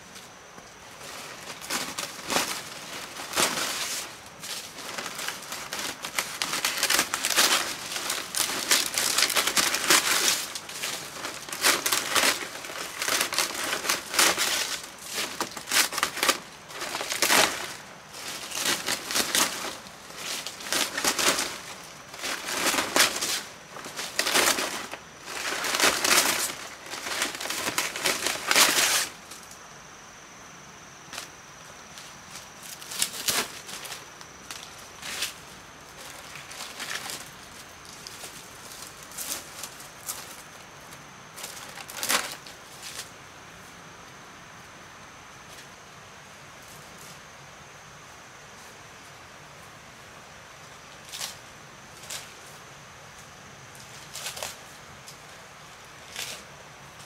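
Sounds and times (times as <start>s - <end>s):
dry palm thatch rustling: 0.0s - 29.8s, 31.0s - 43.8s, 50.7s - 57.0s.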